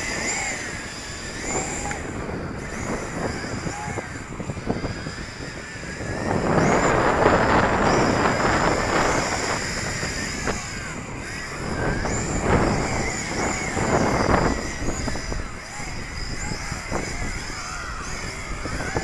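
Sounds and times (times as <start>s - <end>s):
drone motors whining: 0.0s - 19.0s
wind buffeting microphone: 0.0s - 19.0s.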